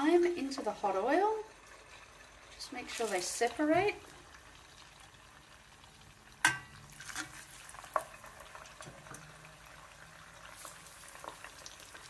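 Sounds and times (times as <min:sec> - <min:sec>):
tofu deep-frying in oil: 0:00.0 - 0:12.0.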